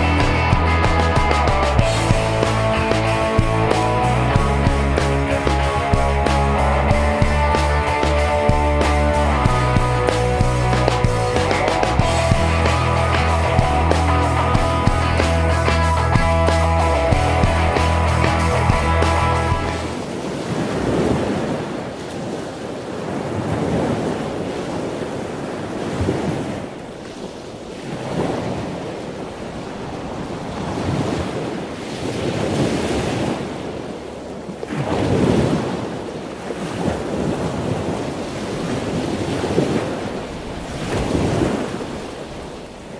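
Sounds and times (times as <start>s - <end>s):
surf breaking on a beach: 0.0s - 42.9s.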